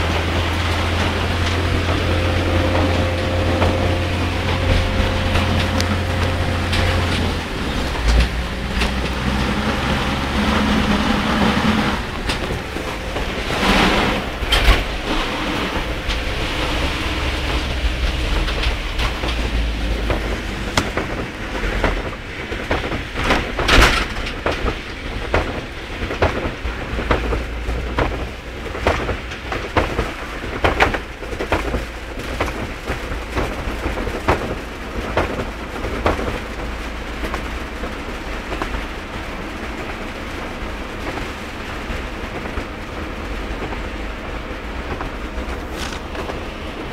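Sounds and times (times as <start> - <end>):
heavy rain on a vehicle: 0.0 - 46.9
road and engine rumble: 0.0 - 46.9.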